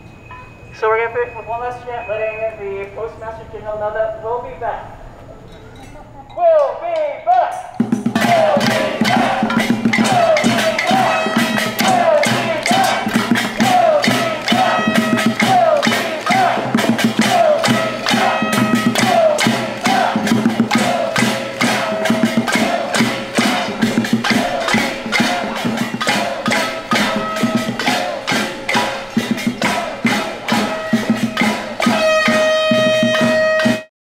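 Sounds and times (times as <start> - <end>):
drums and noisemakers banging: 5.8 - 33.9.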